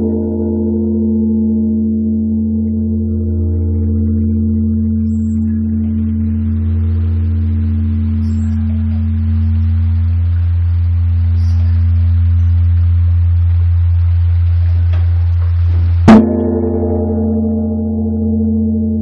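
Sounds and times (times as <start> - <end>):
large temple bell ringing: 0.0 - 19.0.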